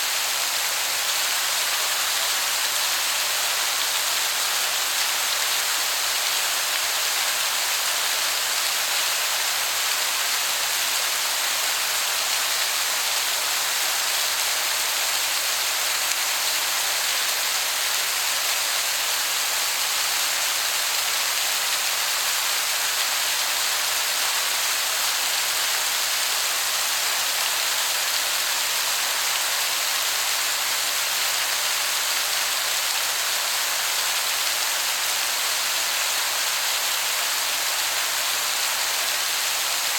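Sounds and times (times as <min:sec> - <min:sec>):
distant waterfall hiss: 0:00.0 - 0:39.9.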